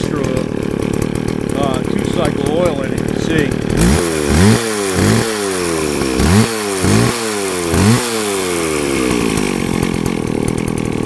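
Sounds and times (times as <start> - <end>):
chainsaw engine revving and idling: 0.0 - 11.0.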